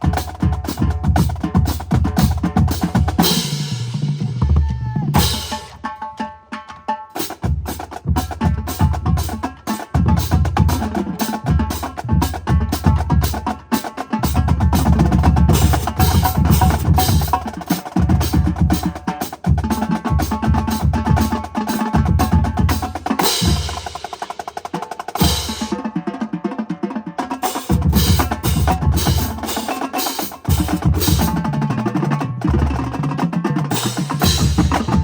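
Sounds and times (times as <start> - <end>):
snare drum strokes: 0.0 - 35.0.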